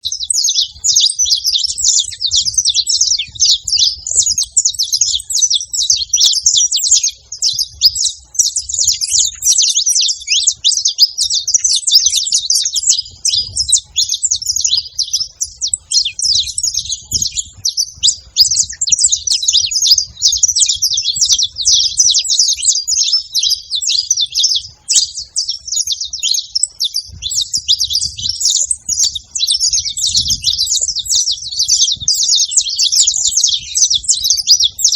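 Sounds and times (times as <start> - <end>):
finches chirping: 0.0 - 34.9.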